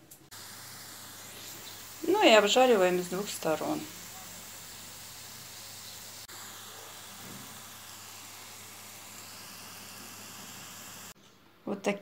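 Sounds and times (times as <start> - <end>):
patties sizzling in a pan: 0.3 - 11.2.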